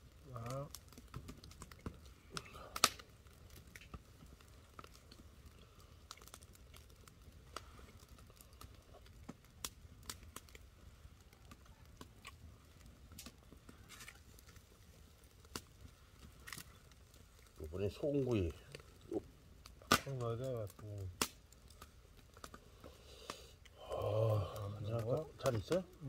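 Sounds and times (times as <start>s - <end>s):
faint sharp clicks and crackles: 0.0s - 26.0s.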